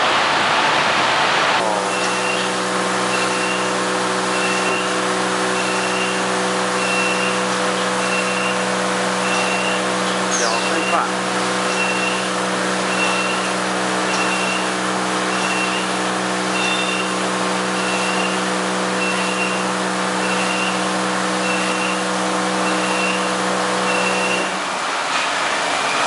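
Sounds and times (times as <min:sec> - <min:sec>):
motor and pump hum: 0:00.0 - 0:26.0
water jets hissing: 0:01.5 - 0:23.9.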